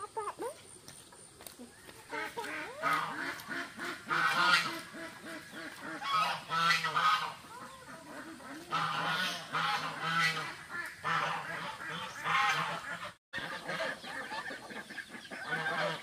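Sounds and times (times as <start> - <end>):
ducks quacking: 1.7 - 16.0.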